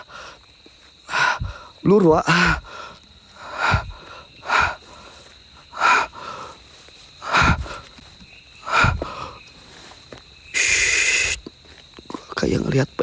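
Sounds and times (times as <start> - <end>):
man breathing hard: 0.0 - 10.0, 10.6 - 11.5.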